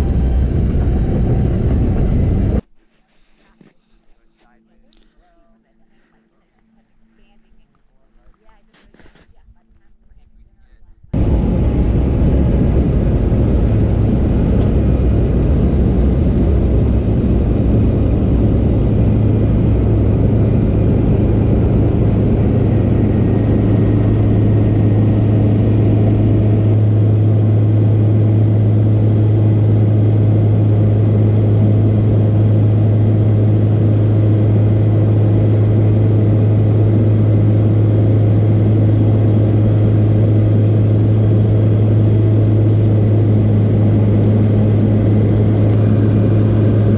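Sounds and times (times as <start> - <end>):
aircraft engine drone: 0.0 - 2.7, 9.8 - 46.9
low hum: 0.0 - 46.9.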